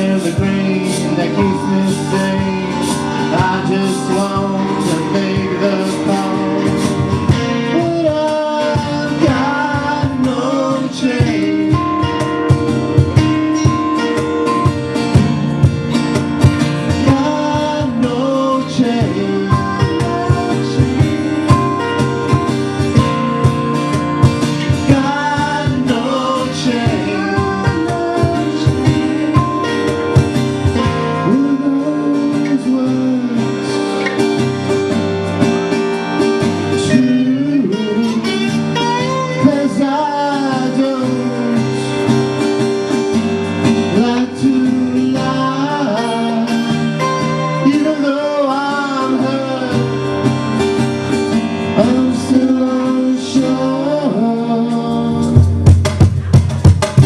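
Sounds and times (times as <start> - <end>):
bending guitar lead melody: 0.0 - 57.0
live band instrumental music: 0.0 - 57.0.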